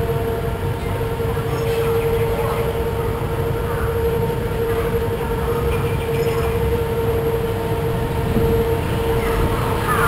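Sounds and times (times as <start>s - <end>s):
steady hum: 0.0s - 10.0s
water rumbling in flume channel: 0.0s - 10.0s.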